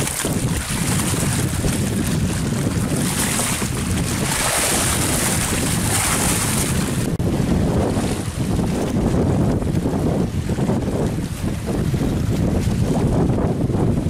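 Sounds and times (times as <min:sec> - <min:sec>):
choppy river water: 0:00.0 - 0:14.0
wind buffeting microphone: 0:00.0 - 0:14.0.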